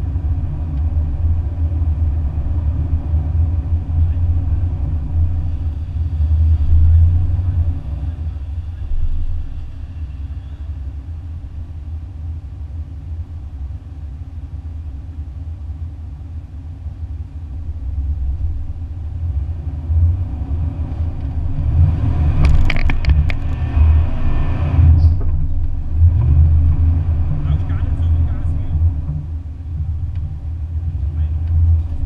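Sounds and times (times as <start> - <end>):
truck engine low rumble: 0.0 - 32.0.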